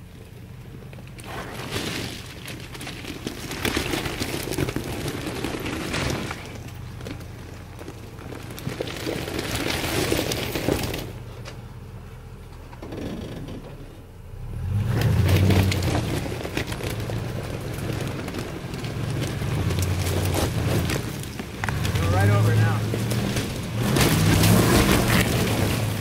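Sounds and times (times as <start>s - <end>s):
tires crunching on gravel: 0.0s - 26.0s
truck engine crawling: 0.0s - 26.0s.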